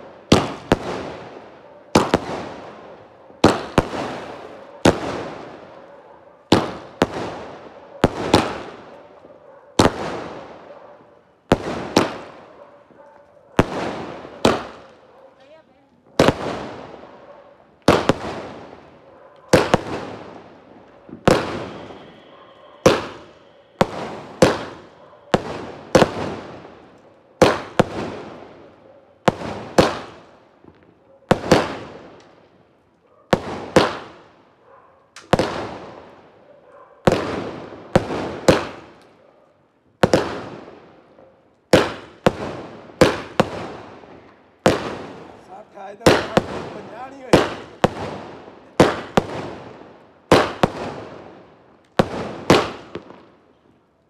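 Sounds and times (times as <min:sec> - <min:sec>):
fireworks bangs: 0:00.0 - 0:39.2, 0:39.9 - 0:53.7.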